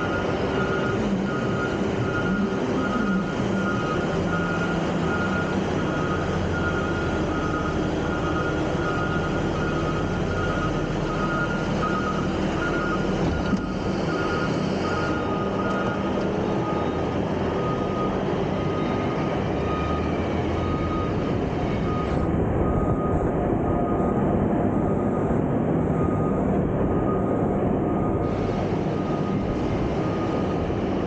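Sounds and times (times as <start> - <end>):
reversing alarm beeping: 0.0 - 24.2, 25.9 - 30.8
diesel trucks and machinery running: 0.0 - 31.0.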